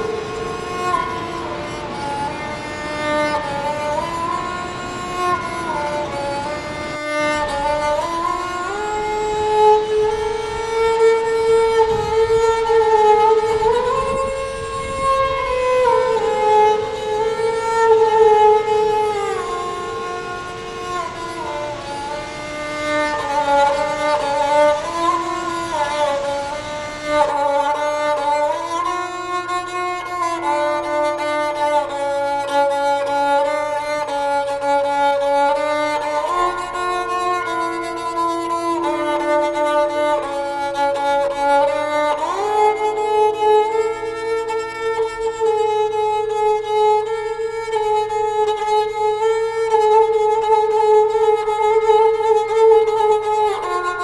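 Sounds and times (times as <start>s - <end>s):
slow bowed string melody: 0.0s - 54.0s.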